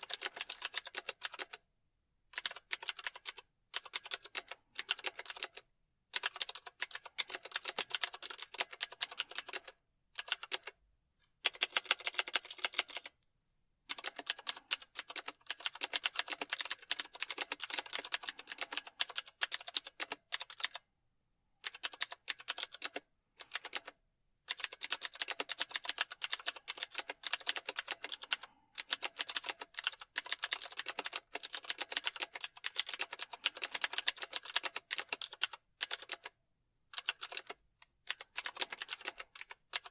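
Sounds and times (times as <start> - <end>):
computer keyboard typing: 0.0 - 1.6, 2.4 - 10.8, 11.4 - 13.2, 13.9 - 20.9, 21.6 - 39.9.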